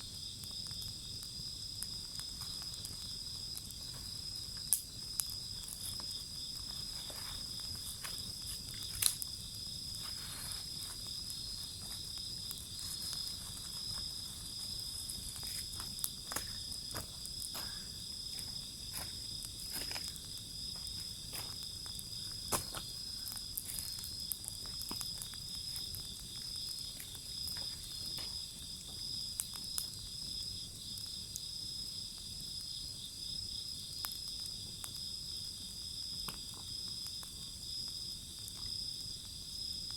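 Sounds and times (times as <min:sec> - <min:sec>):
bonfire crackling and popping: 0:00.0 - 0:39.9
insects chirring: 0:00.0 - 0:39.9.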